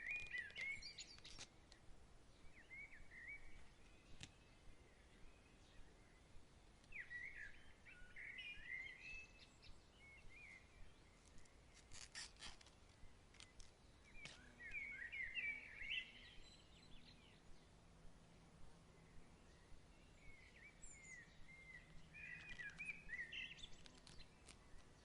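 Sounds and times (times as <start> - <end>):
songbird chirping and warbling: 0.0 - 17.8, 18.8 - 25.0
faint breeze-like hiss: 0.0 - 25.0.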